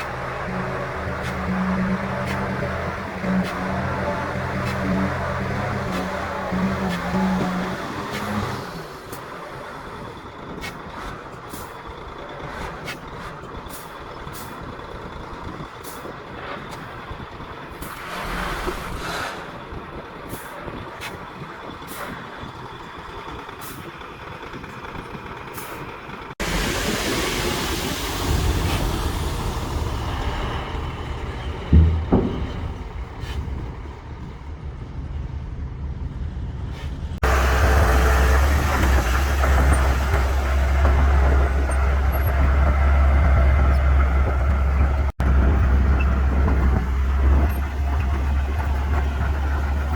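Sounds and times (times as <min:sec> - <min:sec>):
heavy machine diesel engines: 0:00.0 - 0:49.9.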